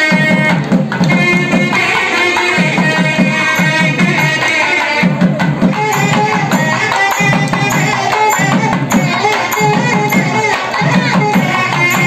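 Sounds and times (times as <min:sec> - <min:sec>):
barrel drum beating fast: 0:00.0 - 0:12.0
jingling percussion: 0:00.0 - 0:12.0.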